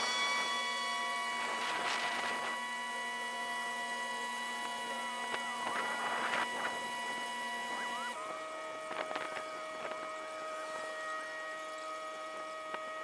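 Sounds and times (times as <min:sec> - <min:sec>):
sped-up boat engine hum: 0:00.0 - 0:13.0.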